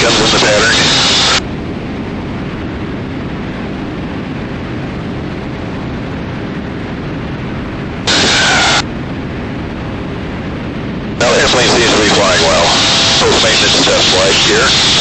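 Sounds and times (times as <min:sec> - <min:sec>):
twin piston aircraft engines droning: 0:00.0 - 0:15.0.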